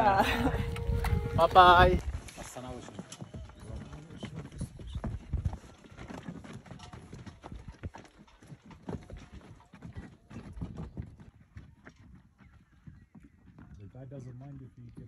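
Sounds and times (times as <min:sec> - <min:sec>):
footsteps on rocky trail: 0:00.3 - 0:13.8.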